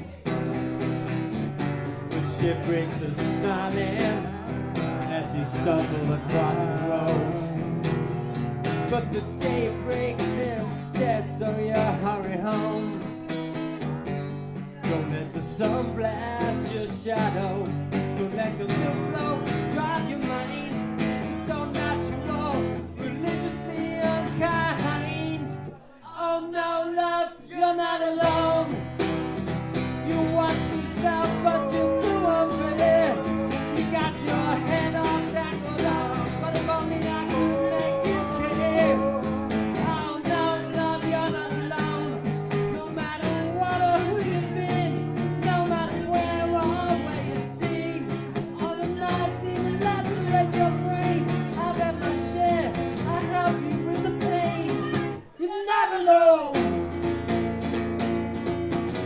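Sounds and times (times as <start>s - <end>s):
acoustic guitar music: 0.0s - 55.6s, 56.3s - 59.0s.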